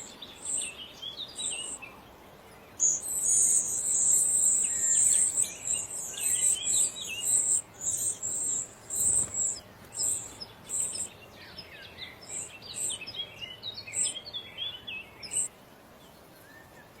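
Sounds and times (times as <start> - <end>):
birds chirping: 0.0 - 17.0
faint hiss: 0.0 - 17.0.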